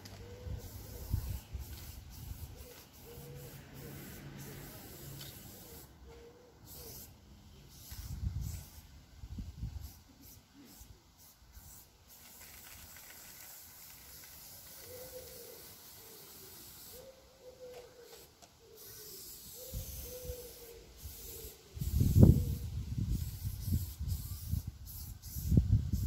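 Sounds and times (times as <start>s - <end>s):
spray paint can hissing: 0.1s - 5.9s, 6.7s - 8.9s, 9.8s - 17.1s, 18.0s - 26.0s.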